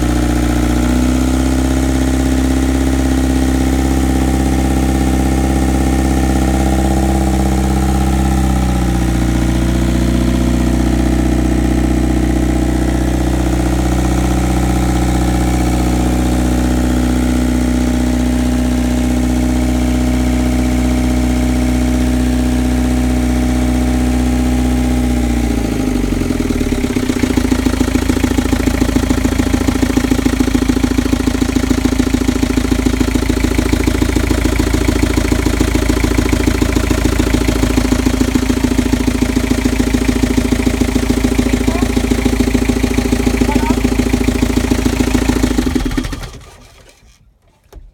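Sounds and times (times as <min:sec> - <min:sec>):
diesel boat engine running: 0:00.0 - 0:47.0.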